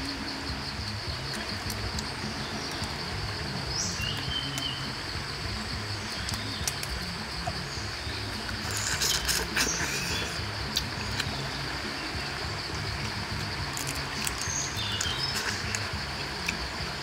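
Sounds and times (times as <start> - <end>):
bird call: 0.0 - 16.7
high insect drone: 0.0 - 17.0
low rumble: 0.0 - 17.0.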